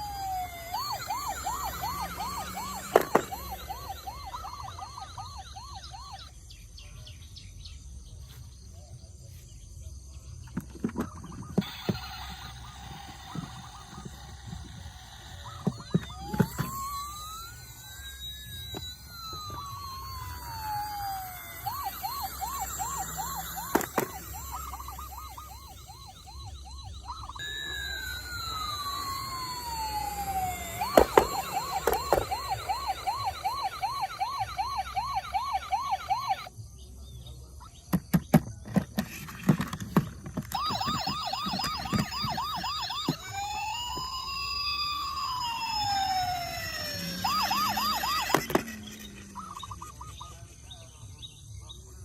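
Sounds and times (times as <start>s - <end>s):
toy siren wailing and yelping: 0.0s - 6.6s, 10.6s - 36.7s, 37.6s - 51.1s.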